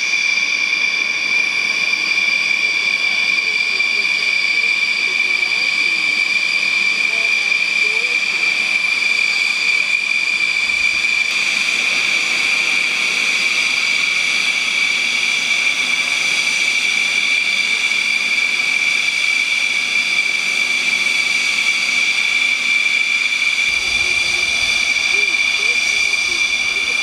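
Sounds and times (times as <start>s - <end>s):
aircraft engine whine: 0.0s - 27.0s.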